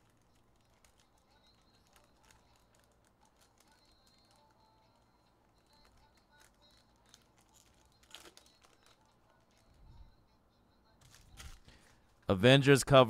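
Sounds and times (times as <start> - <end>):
foil wrapper crinkling and tearing: 0.0 - 9.8, 11.0 - 12.3.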